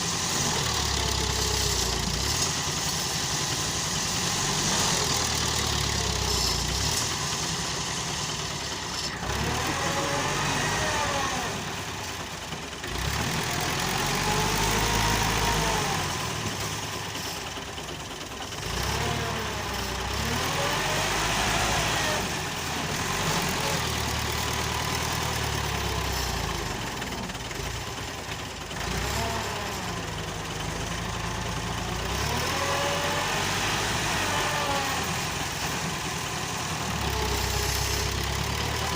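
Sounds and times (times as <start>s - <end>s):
tractor diesel engine revving: 0.0s - 38.9s.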